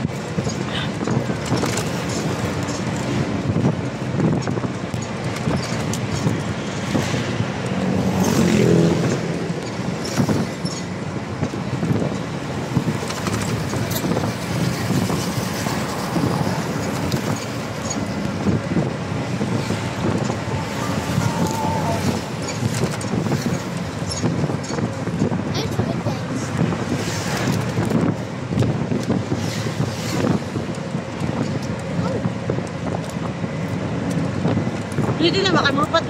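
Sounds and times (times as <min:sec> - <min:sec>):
vehicle engine and road noise: 0:00.0 - 0:36.0
wind blowing: 0:00.0 - 0:36.0.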